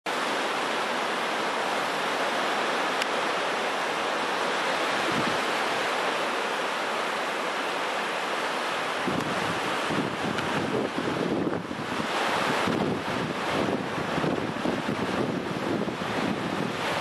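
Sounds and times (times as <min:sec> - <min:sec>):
waves breaking on sand: 0:00.1 - 0:17.0.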